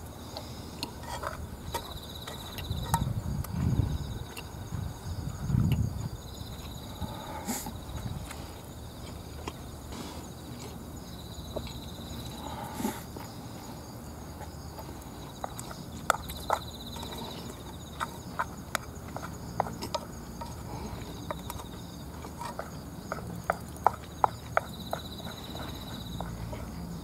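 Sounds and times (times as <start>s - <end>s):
insect buzz: 0.0s - 27.0s.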